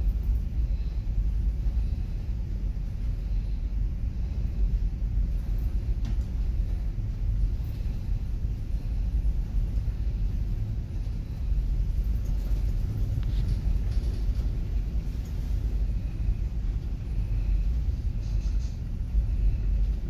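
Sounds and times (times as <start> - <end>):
ferry engines rumbling: 0.0 - 20.0.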